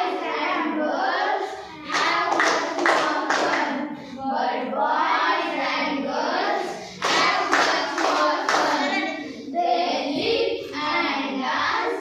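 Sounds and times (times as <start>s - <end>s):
girls singing in unison: 0.0s - 12.0s.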